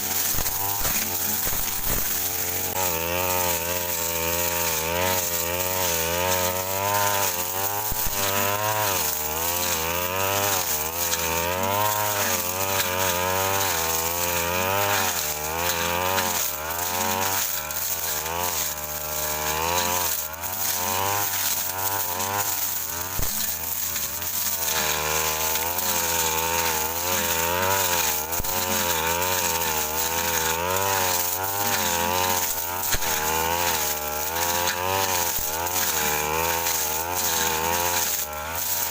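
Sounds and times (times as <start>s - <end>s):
blade cutting through scrub: 0.0s - 38.9s
brush cutter engine running hard: 0.0s - 38.9s.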